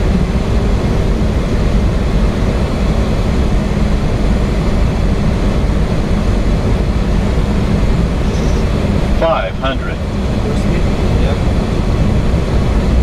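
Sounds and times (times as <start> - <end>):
cockpit air and engine noise: 0.0 - 13.0.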